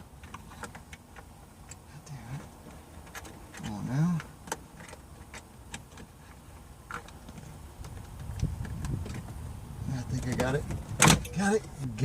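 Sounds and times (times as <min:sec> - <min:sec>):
low handling bumps: 0:00.0 - 0:12.0.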